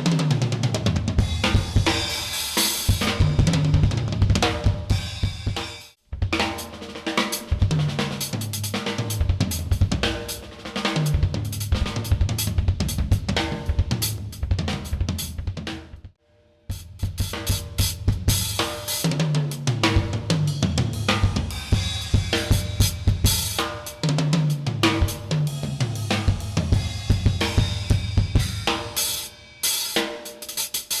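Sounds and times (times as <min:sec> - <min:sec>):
drum fills: 0:00.0 - 0:31.0
drum kit playing: 0:00.0 - 0:31.0.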